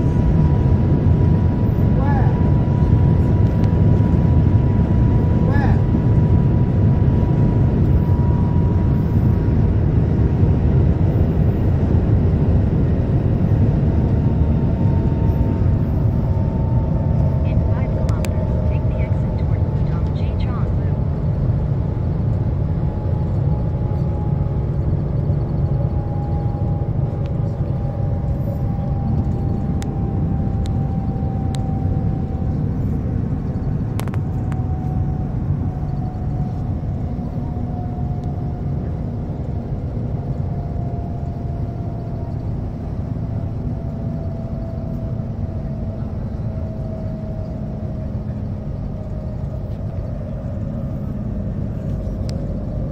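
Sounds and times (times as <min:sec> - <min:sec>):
train cabin low rumble: 0:00.0 - 0:52.9.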